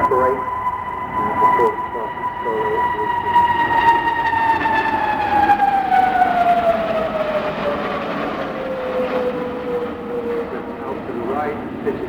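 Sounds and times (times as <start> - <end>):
broad rushing roar: 0.0 - 12.0
jet engines whining: 0.0 - 12.0.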